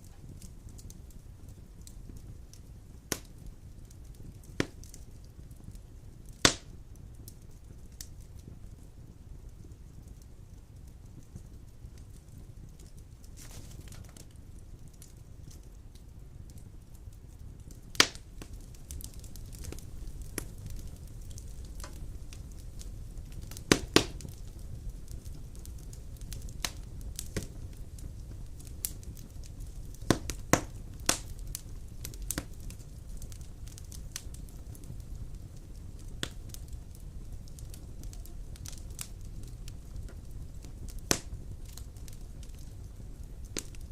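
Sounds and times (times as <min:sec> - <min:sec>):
fire crackling and popping: 0:00.0 - 0:43.9
rumble of flames: 0:00.0 - 0:43.9.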